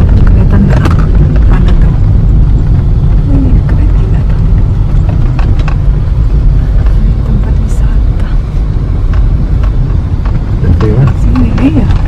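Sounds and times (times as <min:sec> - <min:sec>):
car engine and road noise rumble: 0:00.0 - 0:12.0.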